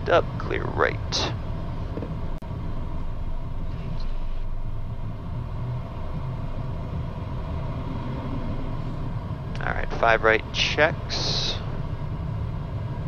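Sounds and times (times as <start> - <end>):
faint steady hum: 0.0 - 13.0
jet engines low rumble: 0.0 - 13.0.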